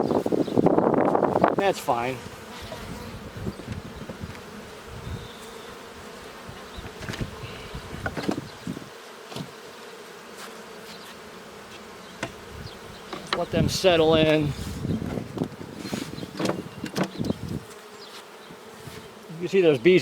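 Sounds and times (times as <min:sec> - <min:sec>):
bees flying close past: 0:00.0 - 0:20.0
honeybees buzzing: 0:00.0 - 0:20.0.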